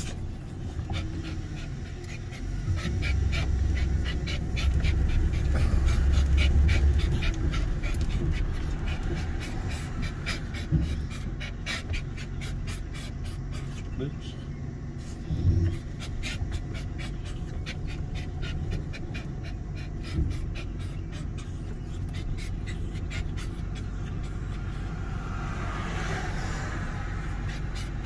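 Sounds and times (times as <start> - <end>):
car rumble: 0.0 - 28.0
dog panting: 0.0 - 28.0.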